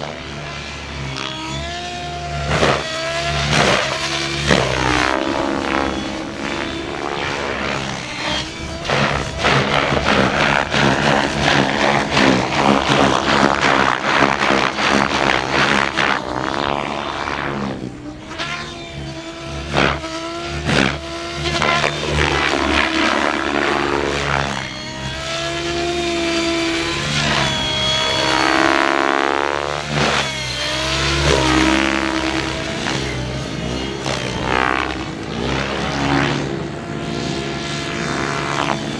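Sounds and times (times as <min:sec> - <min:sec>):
rc helicopter whine: 0:00.0 - 0:38.9
rotor blades chopping: 0:00.0 - 0:38.9.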